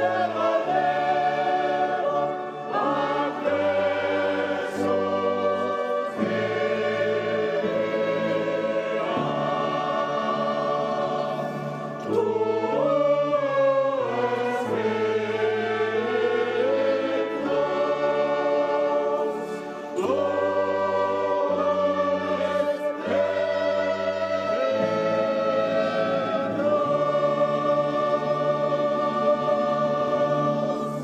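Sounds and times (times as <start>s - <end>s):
choir singing sacred music: 0.0s - 31.0s.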